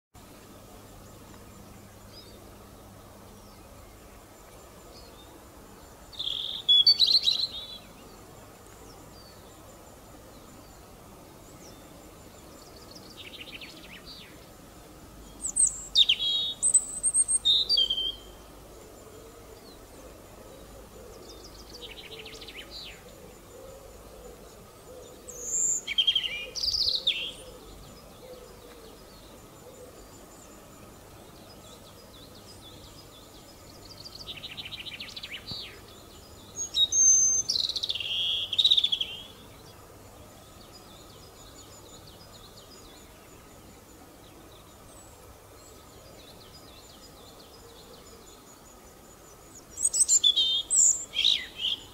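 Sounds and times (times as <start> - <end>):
low background noise: 0.2 - 51.9
robin singing: 0.2 - 51.9.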